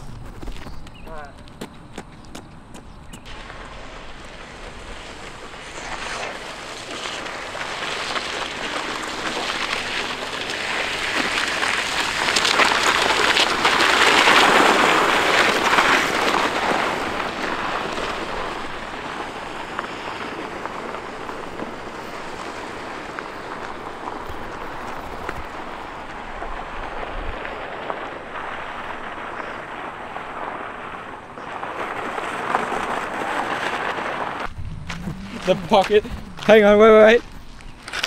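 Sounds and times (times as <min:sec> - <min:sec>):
fabric scraping on road: 0:03.2 - 0:38.0.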